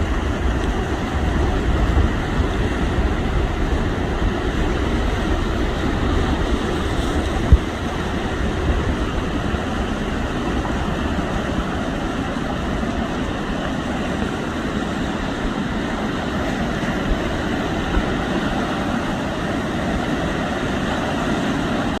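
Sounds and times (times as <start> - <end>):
heavy surf: 0.0 - 22.0
wind: 0.0 - 22.0.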